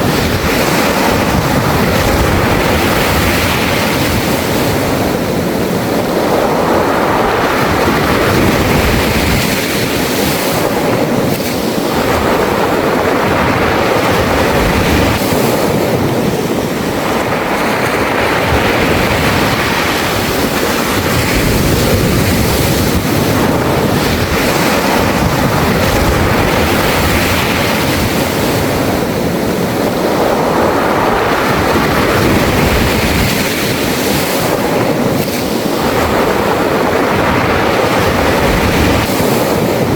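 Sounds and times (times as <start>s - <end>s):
waves over pebbles: 0.0s - 39.9s
wind rumble on microphone: 0.0s - 39.9s.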